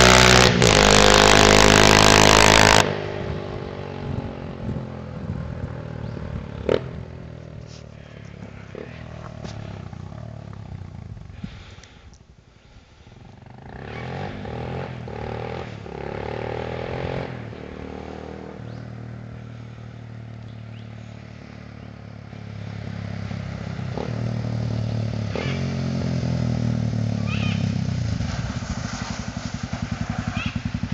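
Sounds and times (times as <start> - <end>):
motorcycle engine revving: 0.0 - 12.0, 12.6 - 30.9.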